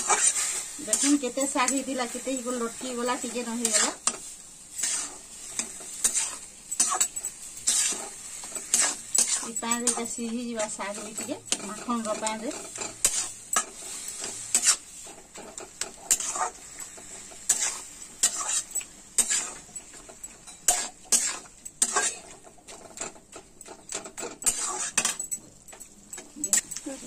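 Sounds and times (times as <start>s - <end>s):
metal spatula scraping metal pan: 0.0s - 27.0s.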